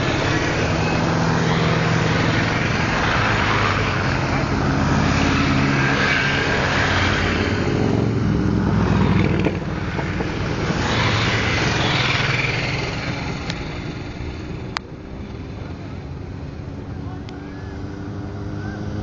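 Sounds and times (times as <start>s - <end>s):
motorcycles passing by: 0.0s - 19.0s.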